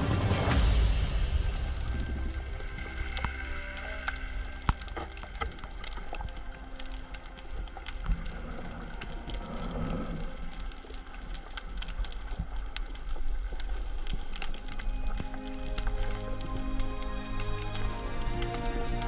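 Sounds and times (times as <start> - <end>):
low underwater rumble: 0.6 - 19.0
sharp underwater clicks: 1.9 - 19.0.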